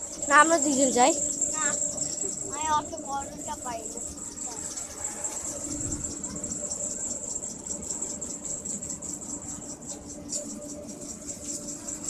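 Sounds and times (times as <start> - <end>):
crickets chirping trill: 0.0 - 12.0
steady low hum: 0.0 - 12.0.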